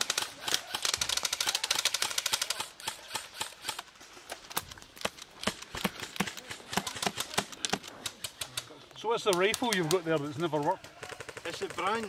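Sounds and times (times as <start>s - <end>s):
airsoft gun clicking shots: 0.0s - 10.1s.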